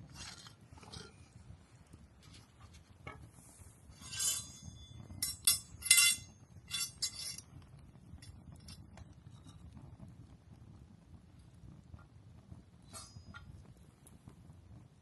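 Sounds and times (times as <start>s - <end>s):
low rumble of flame: 0.0s - 15.0s
wood fire crackling: 0.0s - 15.0s.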